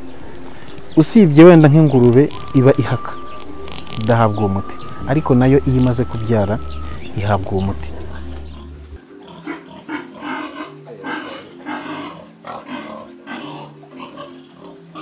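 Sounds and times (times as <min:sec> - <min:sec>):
soft background music: 0:00.0 - 0:15.0
pigs grunting and squealing: 0:01.9 - 0:07.2, 0:07.9 - 0:15.0.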